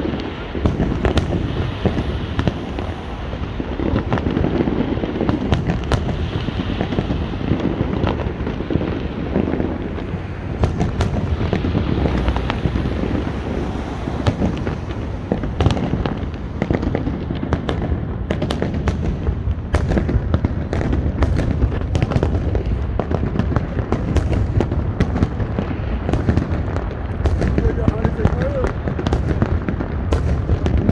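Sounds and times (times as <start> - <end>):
fireworks bursts rumbling: 0.0 - 30.9
sharp firework cracks: 0.0 - 30.9.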